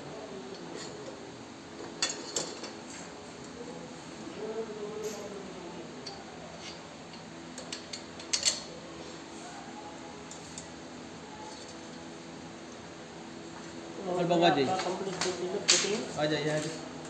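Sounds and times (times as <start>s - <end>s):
workshop background noise: 0.0s - 17.0s.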